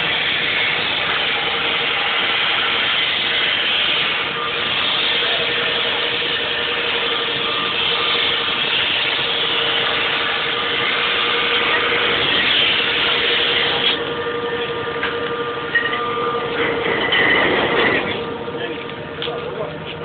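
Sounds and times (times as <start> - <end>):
machinery hiss: 0.0 - 16.7
ship machinery humming: 0.0 - 20.0.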